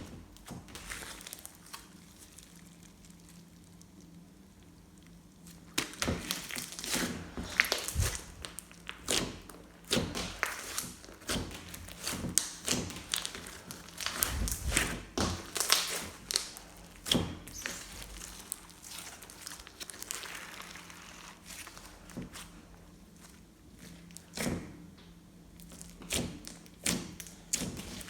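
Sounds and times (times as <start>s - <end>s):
slime being kneaded by hand: 0.0s - 28.0s.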